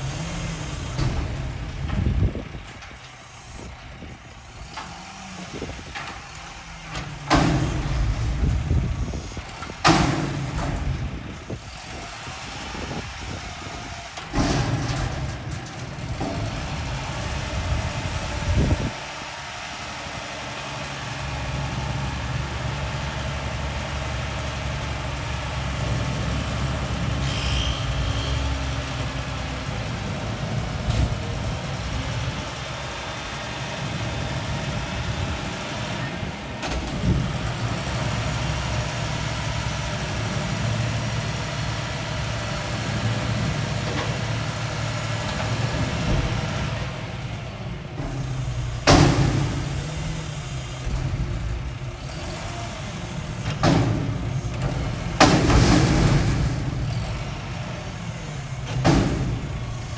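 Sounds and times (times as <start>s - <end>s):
garbage truck engine running: 0.0s - 59.9s.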